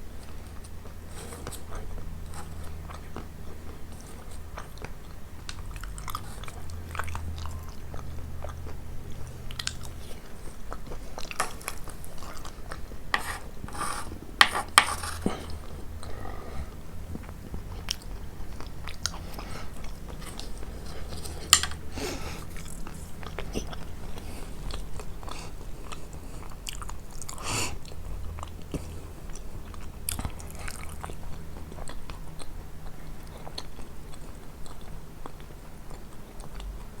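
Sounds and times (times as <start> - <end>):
chewing crunchy pastry: 0.0 - 37.0.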